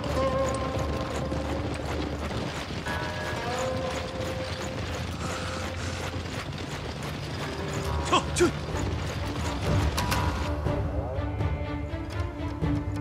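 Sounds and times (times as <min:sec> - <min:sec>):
armour and weapons jangling: 0:00.0 - 0:10.5
footsteps: 0:00.0 - 0:10.7
faint background music: 0:00.0 - 0:13.0
hooves: 0:00.0 - 0:13.0.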